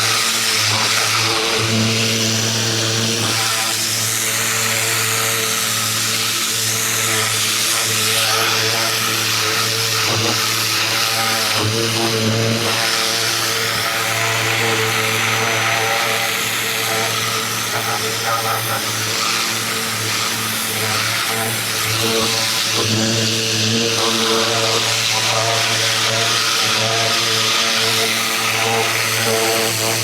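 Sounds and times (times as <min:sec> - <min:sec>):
pressure washer motor hum: 0:00.0 - 0:30.0.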